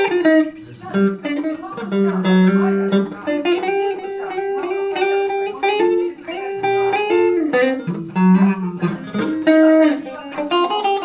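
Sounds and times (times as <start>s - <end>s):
electric guitar playing blues: 0.0s - 11.0s.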